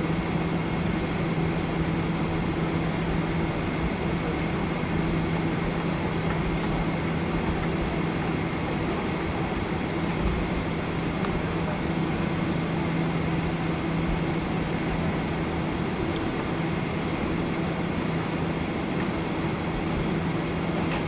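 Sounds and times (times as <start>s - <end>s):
jet engines droning in cabin: 0.0s - 21.0s.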